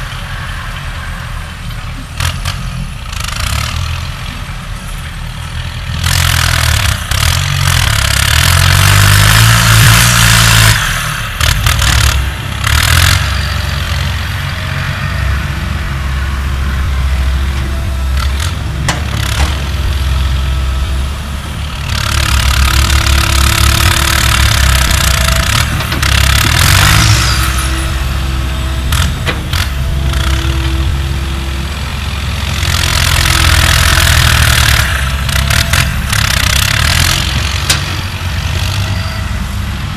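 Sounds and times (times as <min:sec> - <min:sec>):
diesel engine working: 0:00.0 - 0:39.9.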